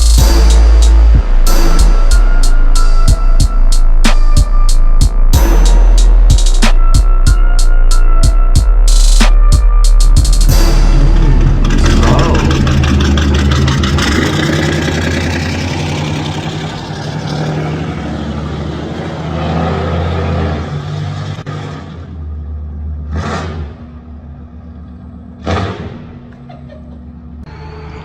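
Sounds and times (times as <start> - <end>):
loud exhaust bursts: 0.0 - 8.3, 8.9 - 24.4
truck engine and exhaust: 0.0 - 28.0.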